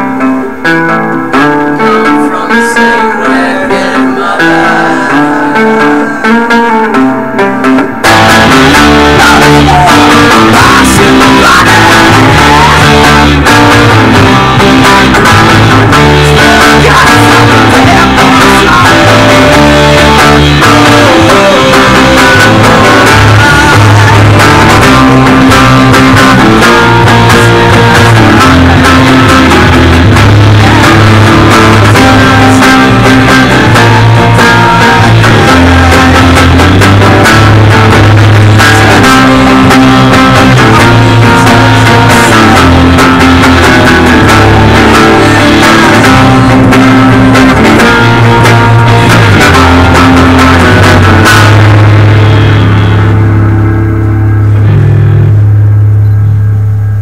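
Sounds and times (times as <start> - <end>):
acoustic guitar: 0.0 - 57.0
bass guitar: 0.0 - 57.0
electric guitar: 0.0 - 57.0.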